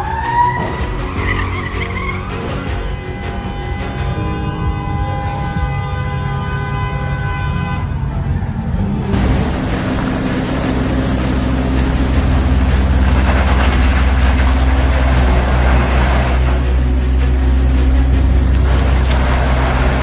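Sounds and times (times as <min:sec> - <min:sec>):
horn: 0:00.0 - 0:20.0
large vehicle engine rumble: 0:00.0 - 0:20.0
road noise: 0:00.0 - 0:20.0.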